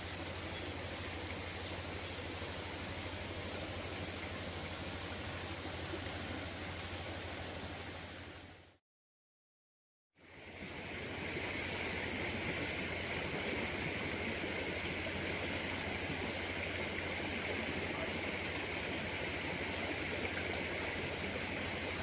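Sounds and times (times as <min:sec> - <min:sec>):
water flowing in a stream: 0:00.0 - 0:08.8, 0:10.2 - 0:22.0.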